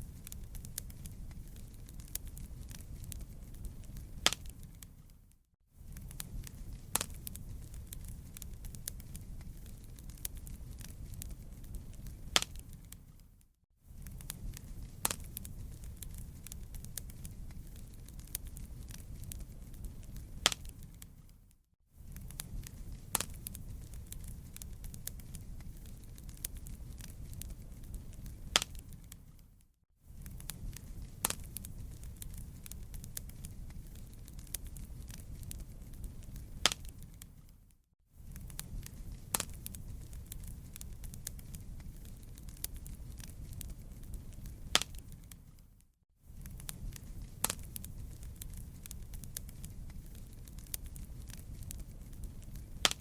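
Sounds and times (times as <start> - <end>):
wood fire rumbling: 0.0 - 5.2, 5.8 - 13.3, 13.9 - 21.4, 22.0 - 29.5, 30.1 - 37.5, 38.2 - 45.6, 46.2 - 53.0
fire crackling and popping: 0.0 - 53.0.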